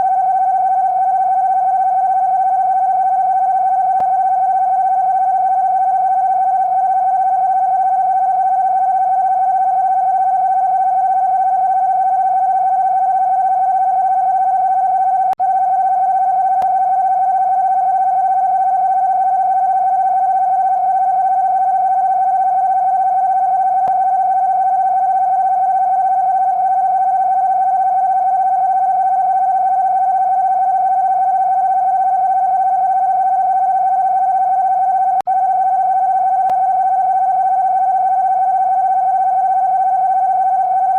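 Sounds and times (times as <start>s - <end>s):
steady electronic alarm tone: 0.0s - 40.9s.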